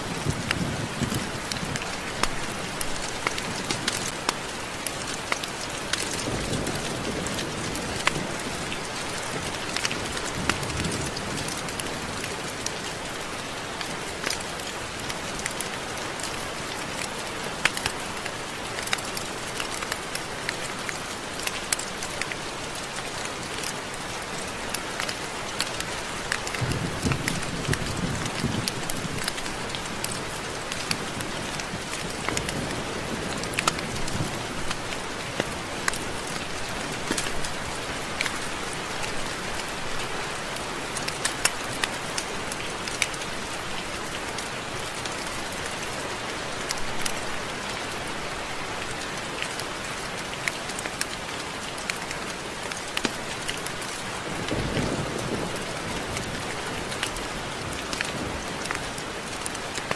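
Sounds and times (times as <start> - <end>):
steady rain with ticking drops: 0.0 - 59.9.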